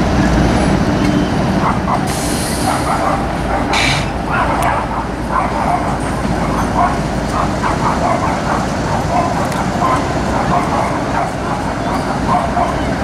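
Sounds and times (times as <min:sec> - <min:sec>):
diesel locomotive engines rumbling: 0:00.0 - 0:13.0.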